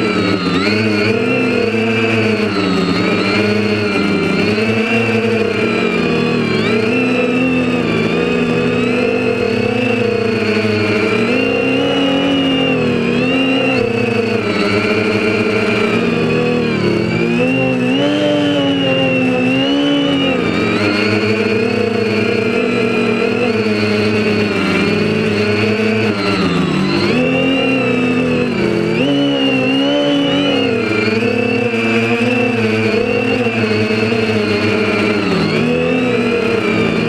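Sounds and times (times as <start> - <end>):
quadcopter motors whining: 0.0 - 37.0.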